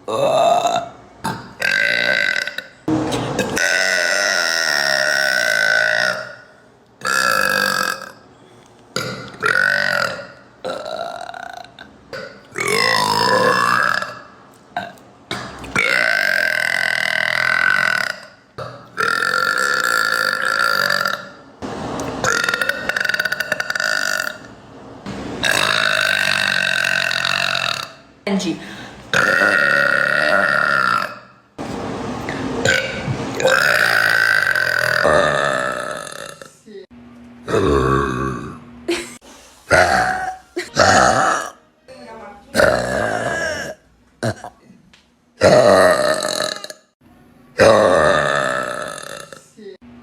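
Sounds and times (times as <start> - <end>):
women belching: 0.1 - 2.8, 3.4 - 8.2, 9.0 - 21.4, 22.2 - 24.5, 25.4 - 28.0, 29.1 - 31.3, 32.6 - 38.6, 39.7 - 41.6, 42.5 - 44.8, 45.4 - 46.9, 47.6 - 49.8.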